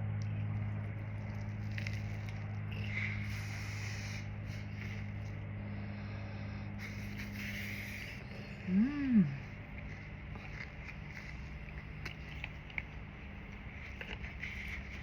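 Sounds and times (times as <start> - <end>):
wet chewing sounds: 0.0 - 6.2, 6.8 - 15.0
steady low hum: 0.0 - 15.0.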